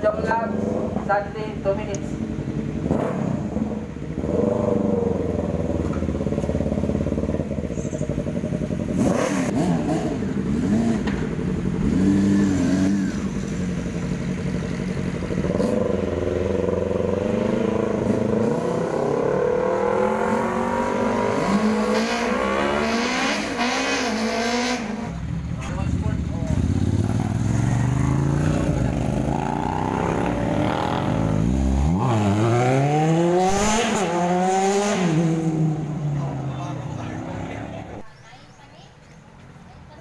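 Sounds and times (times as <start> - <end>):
motorcycles idling and revving: 0.0 - 40.0.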